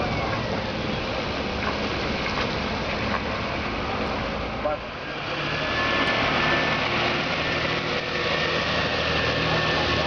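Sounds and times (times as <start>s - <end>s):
truck diesel engine passing: 0.0s - 10.0s.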